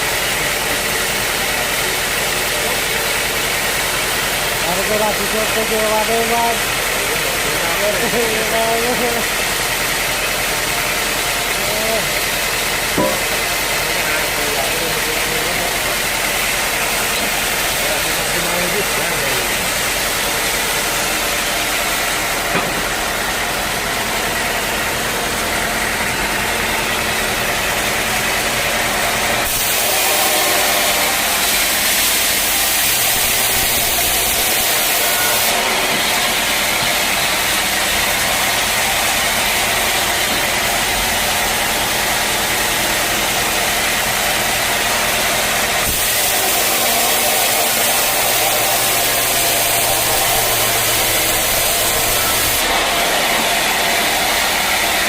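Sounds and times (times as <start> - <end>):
sawmill machine drone: 0.0 - 55.0
saw hissing: 1.2 - 23.6, 28.8 - 55.0.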